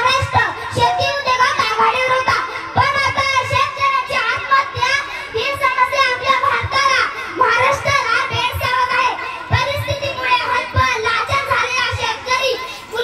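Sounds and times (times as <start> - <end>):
girl chanting into a microphone: 0.0 - 13.0.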